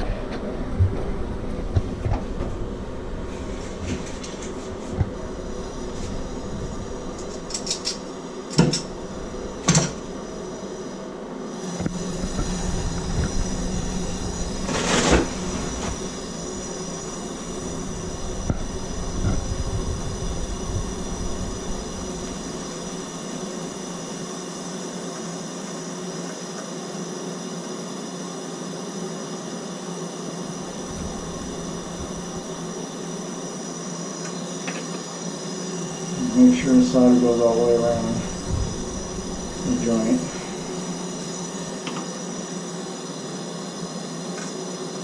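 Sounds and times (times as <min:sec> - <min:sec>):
soldering torch burning: 0:00.0 - 0:45.0.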